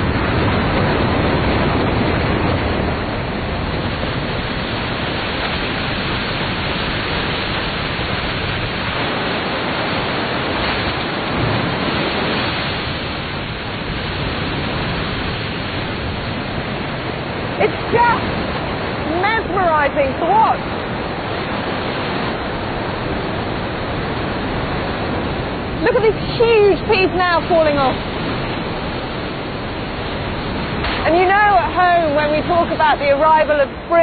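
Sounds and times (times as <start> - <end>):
heavy rush of waterfall: 0.0 - 34.0.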